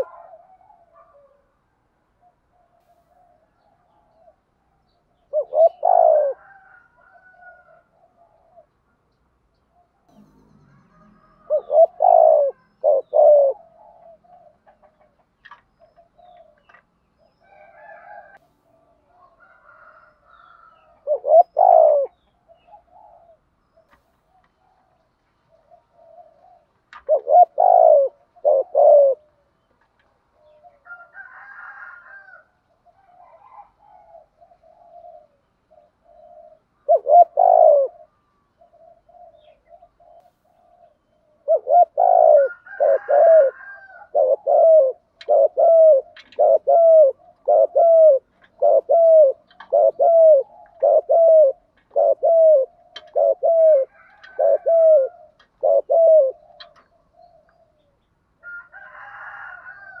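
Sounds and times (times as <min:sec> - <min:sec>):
dove cooing: 0:00.0 - 0:09.0, 0:09.7 - 1:00.0.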